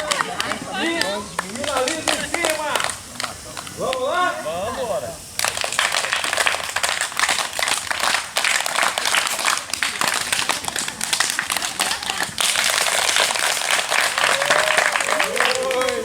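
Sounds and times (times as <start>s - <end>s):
crowd clapping: 0.0s - 4.2s, 5.2s - 16.0s.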